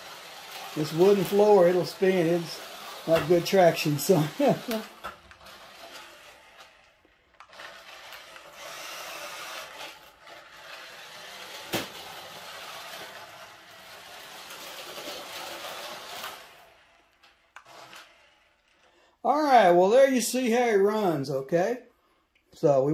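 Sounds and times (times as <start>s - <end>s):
toy car motor whirring: 0.0s - 19.3s.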